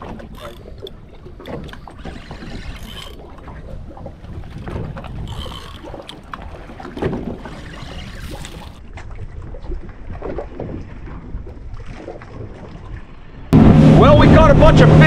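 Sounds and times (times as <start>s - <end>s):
water washing around boat: 0.0s - 15.0s
wind buffeting microphone: 0.0s - 15.0s.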